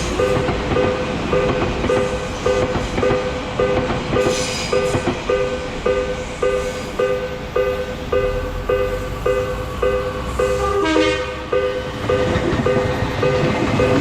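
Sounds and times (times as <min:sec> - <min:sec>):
passing train rumble: 0:00.0 - 0:14.0
railroad crossing alarm dinging: 0:00.0 - 0:14.0.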